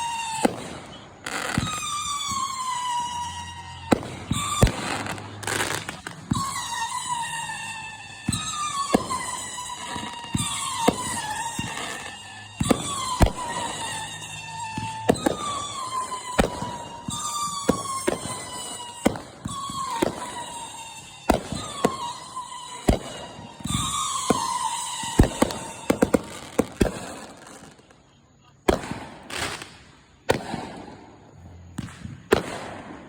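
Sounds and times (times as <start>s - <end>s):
firework whistles sliding down: 0.0s - 28.0s
fireworks bangs and pops: 0.0s - 33.0s.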